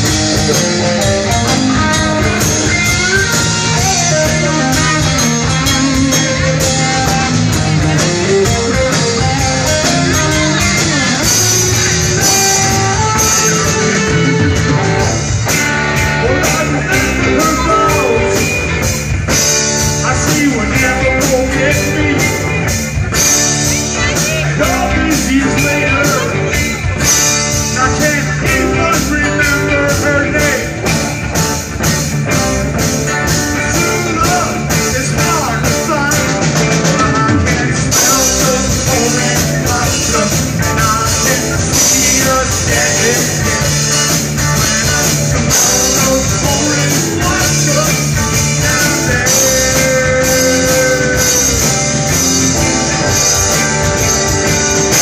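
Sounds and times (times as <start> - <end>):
live rock band playing: 0.0 - 55.0
steady drum beat: 0.0 - 55.0.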